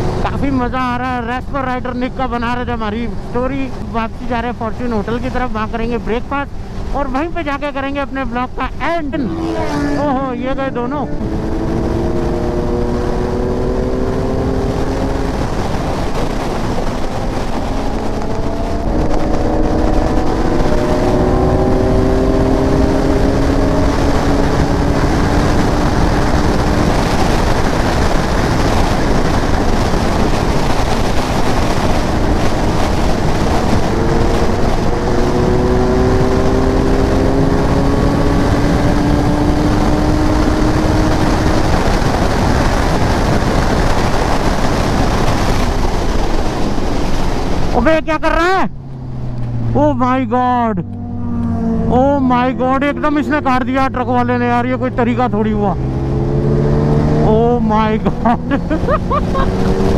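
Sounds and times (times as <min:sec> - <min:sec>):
wind rushing on microphone: 0:00.0 - 0:59.9
motorcycle engine revving high: 0:03.6 - 0:59.9.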